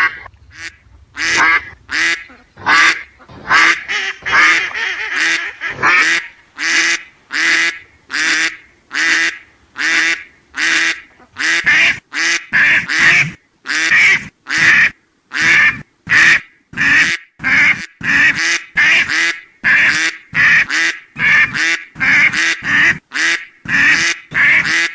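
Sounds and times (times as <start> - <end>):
duck quacking: 0.0 - 24.9.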